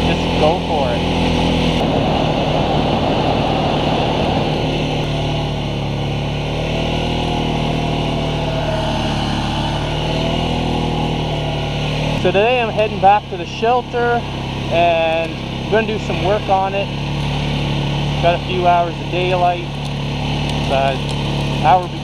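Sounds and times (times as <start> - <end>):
quad bike engine droning: 0.0 - 22.0.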